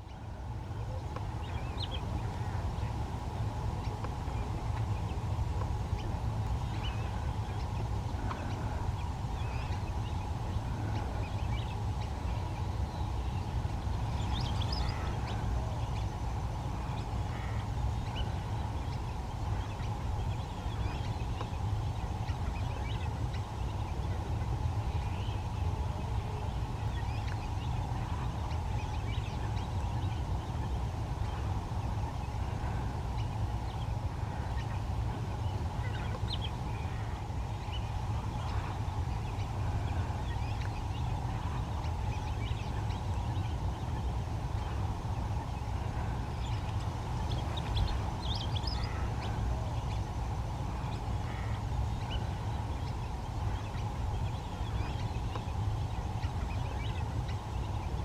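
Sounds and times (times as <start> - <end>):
constant hum: 0.0 - 58.0
steady low rumble: 0.0 - 58.0.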